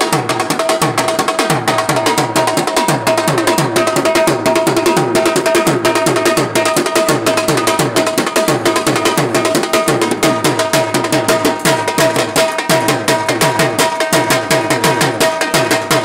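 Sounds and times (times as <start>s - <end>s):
dhol drum beaten with sticks: 0.0s - 16.0s.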